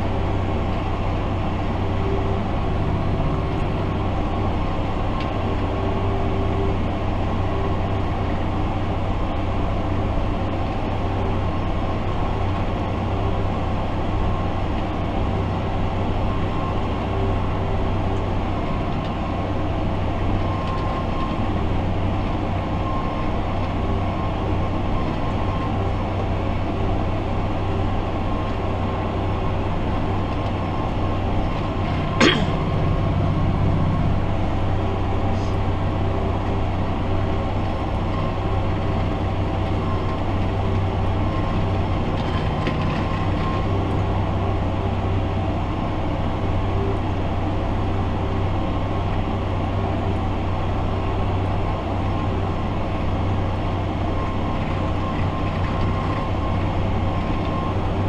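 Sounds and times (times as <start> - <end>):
tractor diesel engine drone: 0.0 - 58.0.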